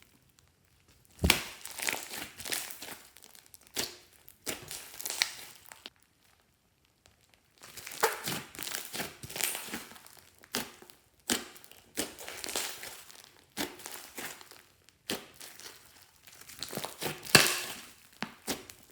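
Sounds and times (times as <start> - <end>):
slime squishing and crackling: 0.0 - 18.9.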